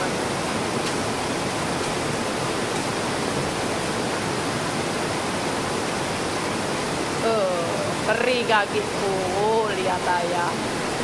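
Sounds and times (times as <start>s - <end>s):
heavy rain on roof: 0.0s - 11.0s.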